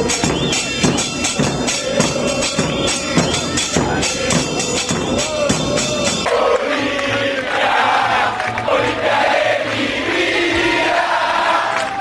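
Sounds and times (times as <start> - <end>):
crowd singing a chant: 0.0 - 12.0
drums and percussion beat: 0.0 - 12.0.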